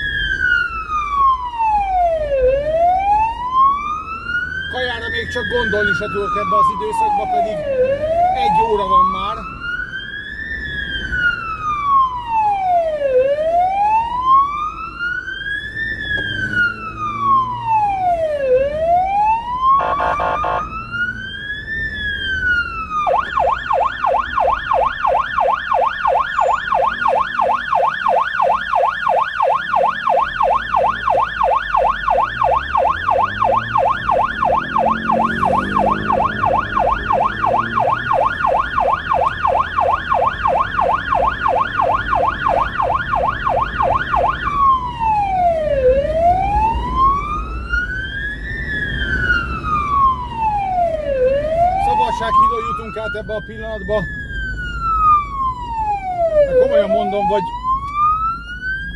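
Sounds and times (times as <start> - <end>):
electronic siren wailing: 0.0 - 58.9
siren buzzing blast: 0.0 - 58.9
siren fast yelp: 0.0 - 58.9.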